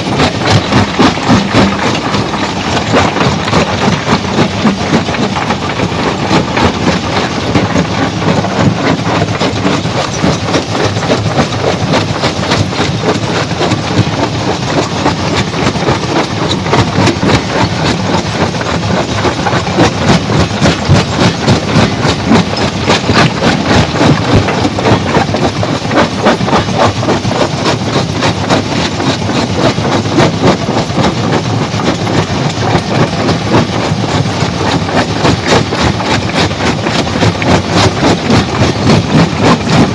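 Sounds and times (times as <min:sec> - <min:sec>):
stone crusher clattering: 0:00.0 - 0:39.9.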